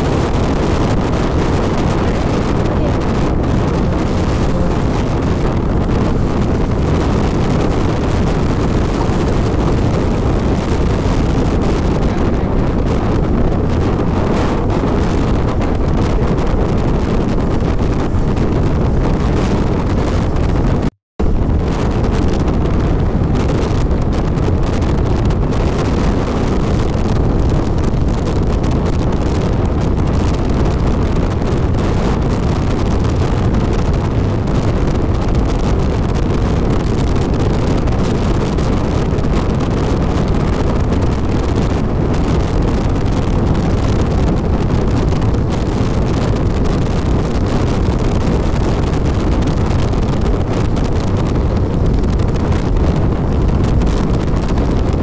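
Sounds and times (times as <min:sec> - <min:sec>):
motorcycle engine drone: 0:00.0 - 0:55.0
wind rushing over microphone: 0:00.0 - 0:55.0.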